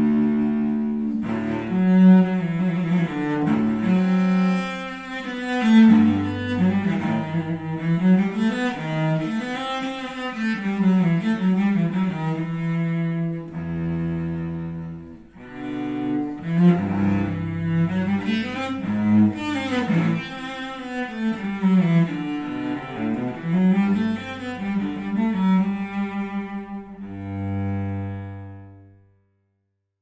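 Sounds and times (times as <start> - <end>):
cello played with bow: 0.0 - 29.2.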